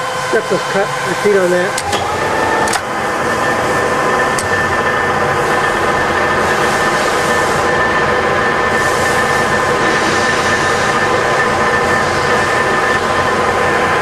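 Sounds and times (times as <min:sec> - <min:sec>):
milling machine humming with whine: 0:00.0 - 0:14.0.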